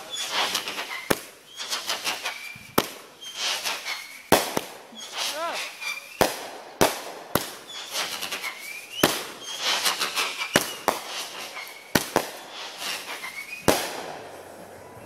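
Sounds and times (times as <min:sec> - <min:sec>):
crackling sparks: 0:00.0 - 0:14.6
fireworks bangs: 0:00.0 - 0:15.0.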